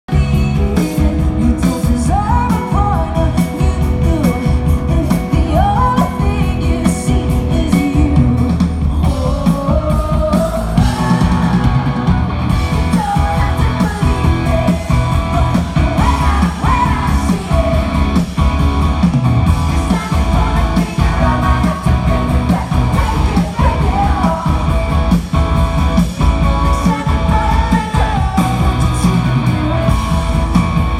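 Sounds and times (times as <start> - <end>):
woman singing: 0.0 - 18.4, 19.5 - 24.9, 26.2 - 30.8
live rock band playing: 0.1 - 30.9.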